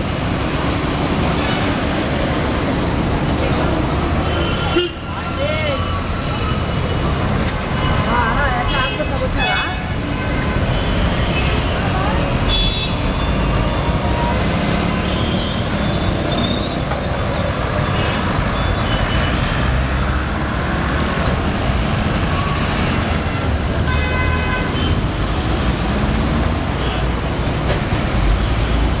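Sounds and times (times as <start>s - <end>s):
traffic engine rumble: 0.0s - 29.0s.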